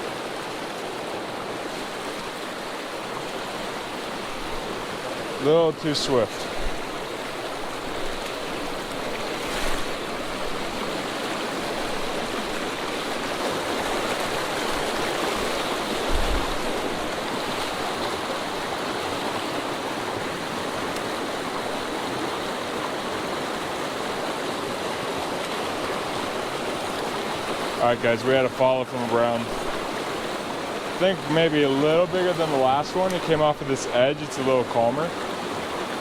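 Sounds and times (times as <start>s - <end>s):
creek water rushing: 0.0s - 36.0s.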